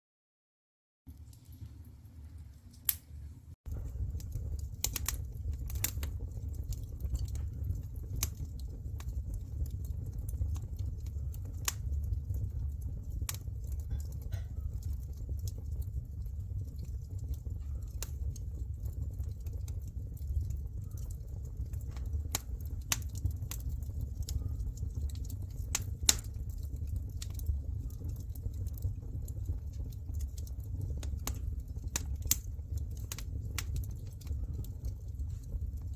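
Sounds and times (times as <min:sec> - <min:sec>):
fire crackling and popping: 0:01.1 - 0:35.9
steady low rumble: 0:01.1 - 0:35.9.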